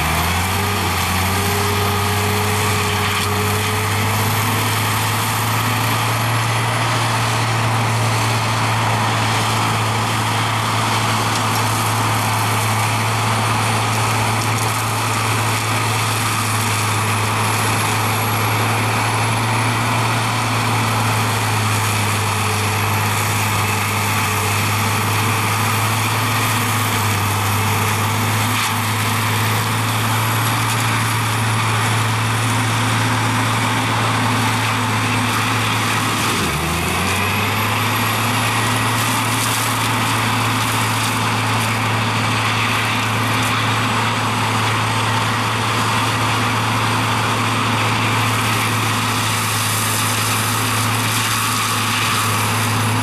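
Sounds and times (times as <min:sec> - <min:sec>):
mulcher engine droning: 0:00.0 - 0:53.0
mulcher grinding brush: 0:00.0 - 0:53.0.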